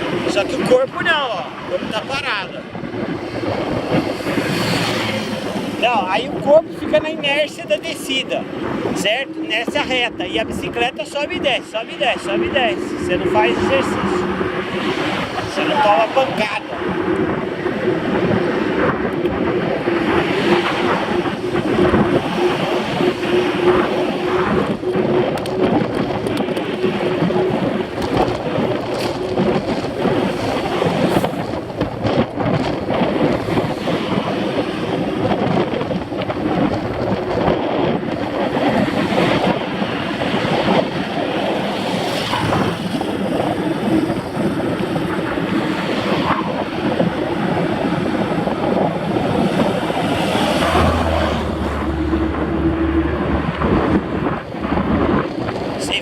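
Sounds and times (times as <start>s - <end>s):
wind buffeting microphone: 0.0s - 56.0s
bike tyre noise: 2.9s - 56.0s.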